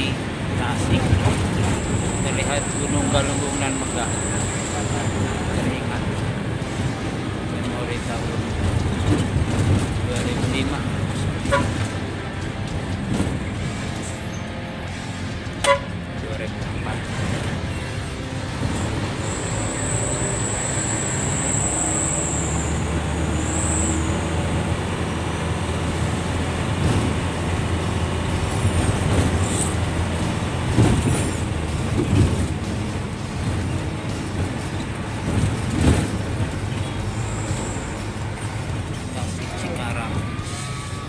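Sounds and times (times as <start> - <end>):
bus engine rumble: 0.0 - 41.0
road noise: 0.0 - 41.0.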